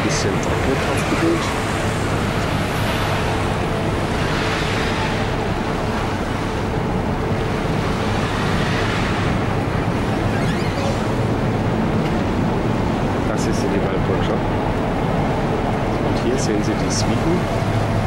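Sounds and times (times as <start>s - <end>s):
ship machinery hum: 0.0s - 18.0s
wind rushing over microphone: 0.0s - 18.0s.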